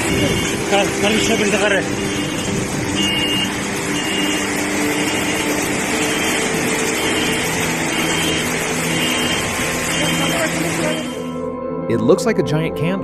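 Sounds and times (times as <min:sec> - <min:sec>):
stream rushing: 0:00.0 - 0:11.4.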